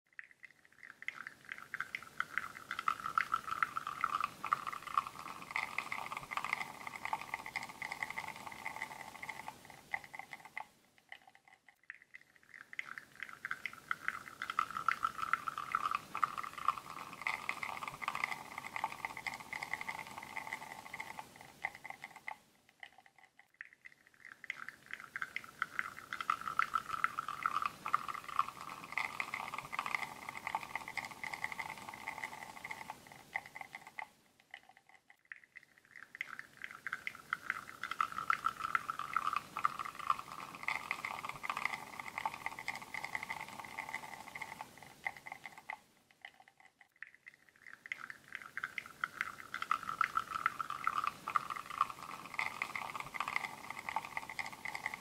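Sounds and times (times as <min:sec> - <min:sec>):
espresso trickling into cup: 0:00.9 - 0:10.7, 0:12.6 - 0:22.4, 0:24.5 - 0:34.1, 0:36.0 - 0:45.8, 0:47.8 - 0:55.0.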